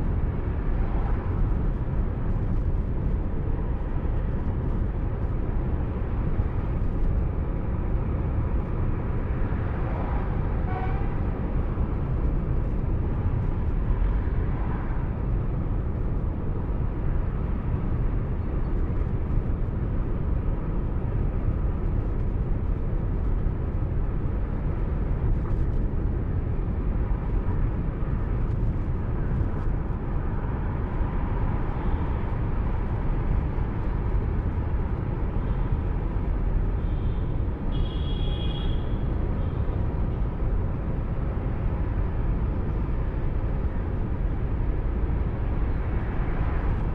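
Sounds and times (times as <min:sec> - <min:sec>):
car driving on highway: 0:00.0 - 0:46.9.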